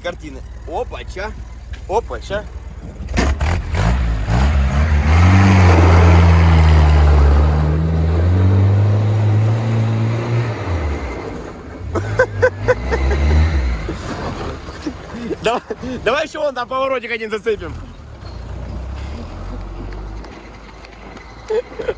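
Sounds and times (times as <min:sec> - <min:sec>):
jeep engine revving: 0:00.0 - 0:21.4.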